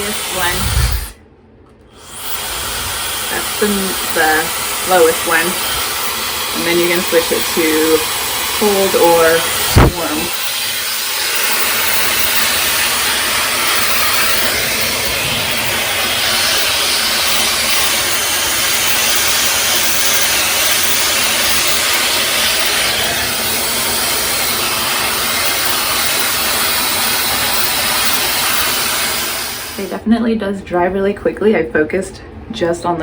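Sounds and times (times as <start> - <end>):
hair dryer blowing air: 0.0 - 1.2, 1.9 - 29.9.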